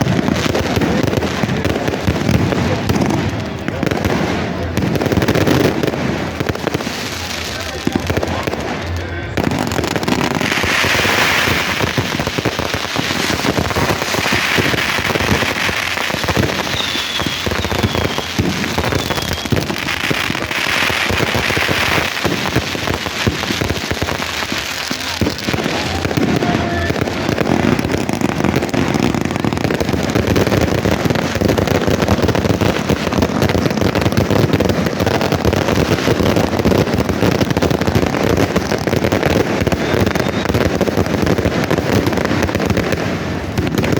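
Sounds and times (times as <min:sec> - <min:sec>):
fireworks crackling and popping: 0:00.0 - 0:43.9
firework whistles: 0:05.4 - 0:42.4.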